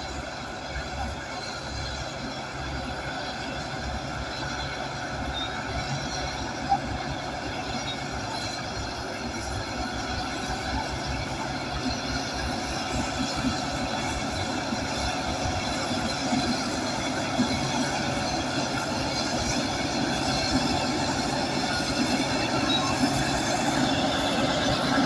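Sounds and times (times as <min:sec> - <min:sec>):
steel tracks rumbling and rattling: 0:00.0 - 0:25.0.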